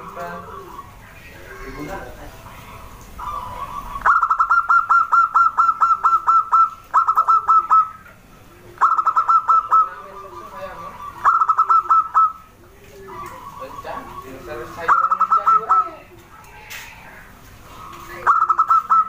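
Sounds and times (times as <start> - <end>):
dove rapid staccato calls: 0.0 - 19.0
faint low dove coos: 0.0 - 19.0.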